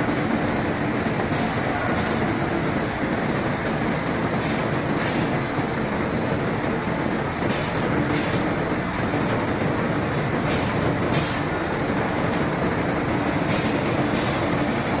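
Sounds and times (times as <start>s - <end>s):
lathe mechanical din: 0.0s - 15.0s.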